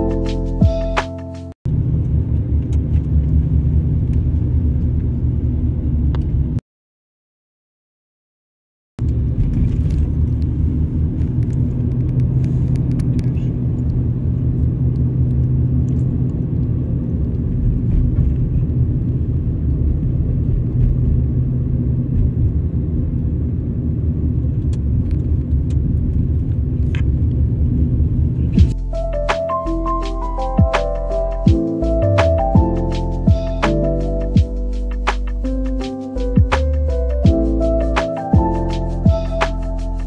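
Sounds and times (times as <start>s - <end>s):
car engine and tyre rumble: 1.7s - 6.6s, 9.0s - 40.0s.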